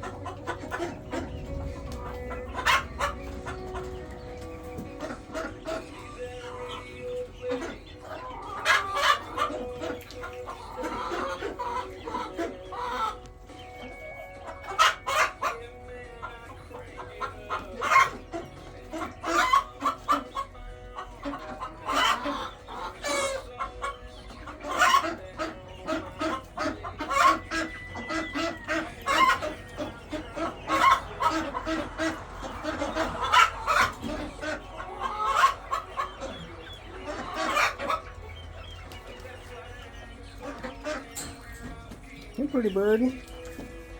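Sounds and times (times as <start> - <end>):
hens clucking: 0.0 - 43.9.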